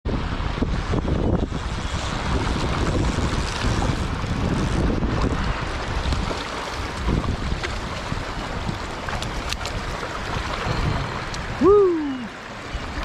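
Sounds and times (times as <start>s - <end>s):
wind buffeting microphone: 0.0s - 13.0s
river water rushing: 0.1s - 13.0s.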